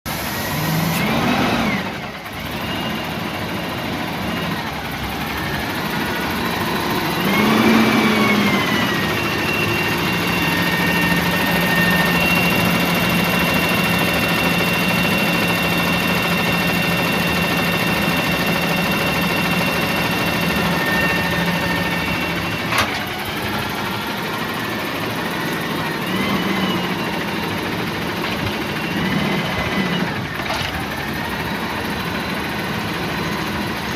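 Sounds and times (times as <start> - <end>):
engine whine: 0.1 - 33.9
garbage truck engine revving: 0.1 - 33.9.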